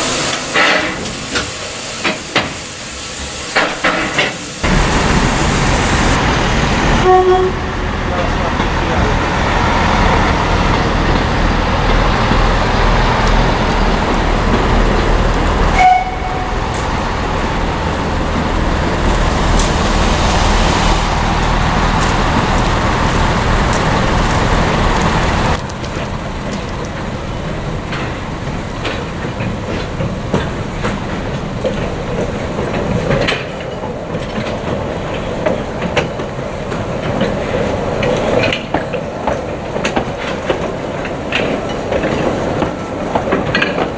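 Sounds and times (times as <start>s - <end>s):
train rumbling with wheel clatter: 0.0s - 43.9s.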